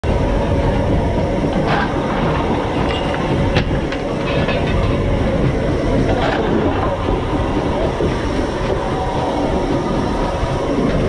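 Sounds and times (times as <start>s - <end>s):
rail clatter: 0.0s - 11.0s
steam locomotive rumble: 0.0s - 11.0s.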